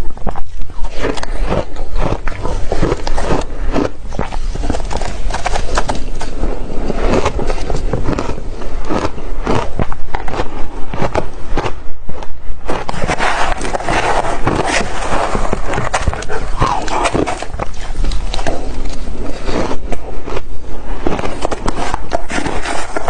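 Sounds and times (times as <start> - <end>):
ice crunching while chewed: 0.0 - 23.0.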